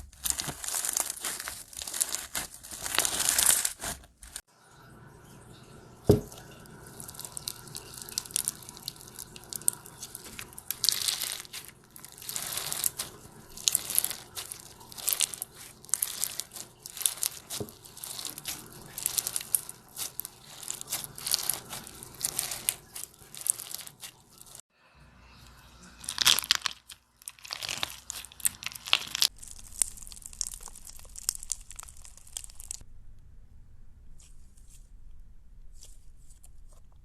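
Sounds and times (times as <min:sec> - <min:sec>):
slime squishing and crackling: 0:00.0 - 0:04.5, 0:06.1 - 0:24.6, 0:26.0 - 0:32.8.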